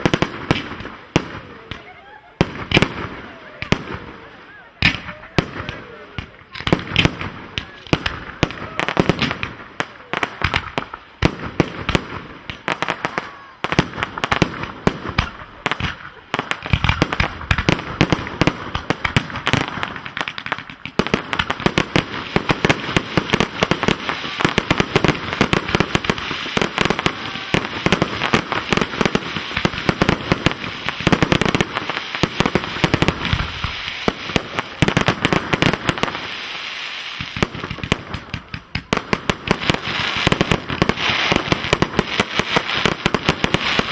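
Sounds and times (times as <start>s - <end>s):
dense fireworks crackle: 0.0s - 43.9s
fireworks bangs: 0.0s - 43.9s.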